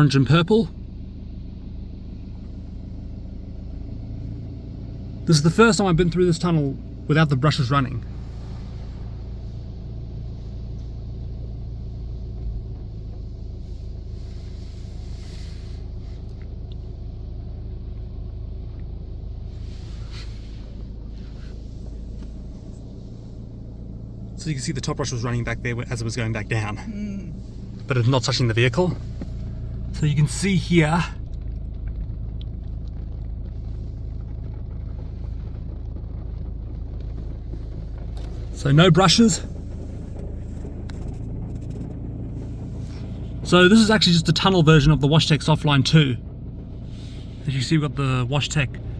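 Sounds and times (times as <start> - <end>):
low rumble inside car: 0.0 - 48.9.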